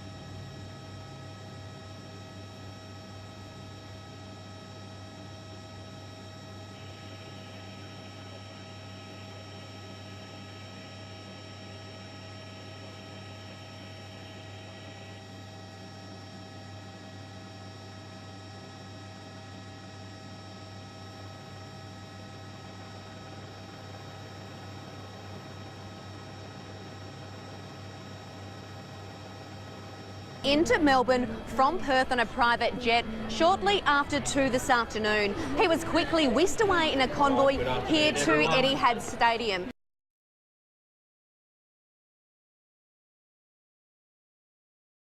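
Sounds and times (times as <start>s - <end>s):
electrical hum: 0.0s - 39.7s
high steady whining tones: 0.0s - 39.7s.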